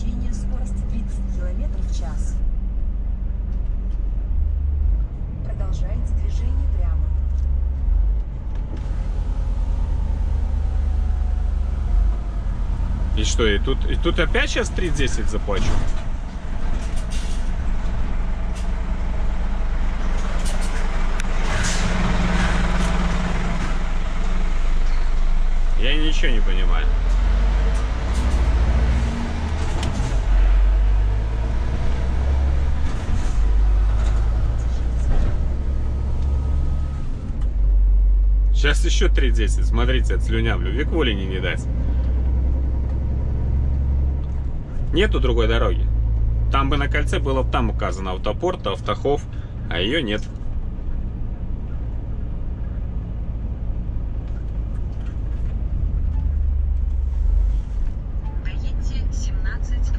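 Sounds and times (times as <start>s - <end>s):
truck engine deep hum: 0.0s - 59.9s.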